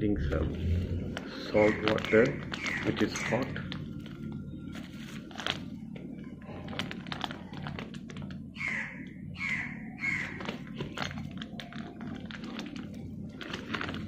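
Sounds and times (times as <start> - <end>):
plastic bag crinkling: 0.6 - 8.6, 10.0 - 14.0.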